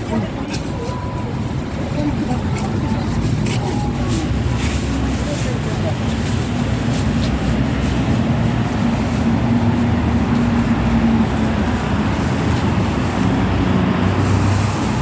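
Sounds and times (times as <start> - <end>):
engine humming steadily: 0.0 - 15.0
loud rushing noise: 0.0 - 15.0.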